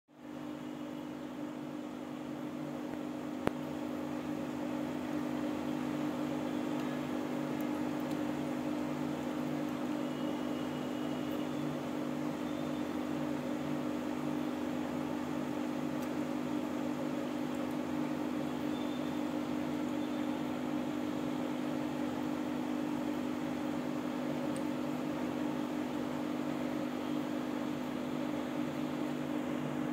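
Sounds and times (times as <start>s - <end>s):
aquarium pump humming: 0.1s - 29.9s.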